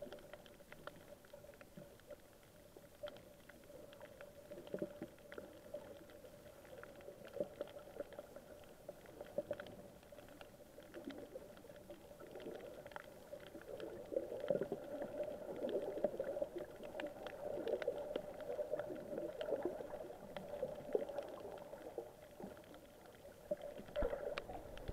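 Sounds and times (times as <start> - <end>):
muffled water rumble: 0.0 - 24.9
sharp clicks and crackles: 0.0 - 24.9.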